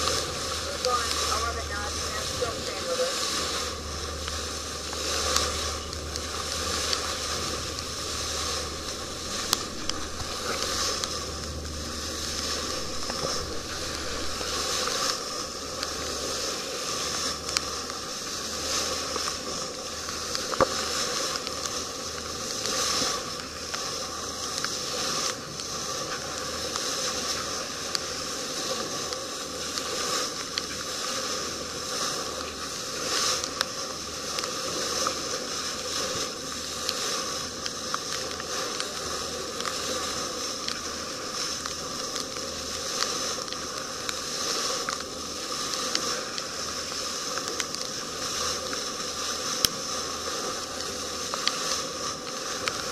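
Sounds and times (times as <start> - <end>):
low steady hum: 0.0 - 52.9
water rushing along boat hull: 0.0 - 52.9.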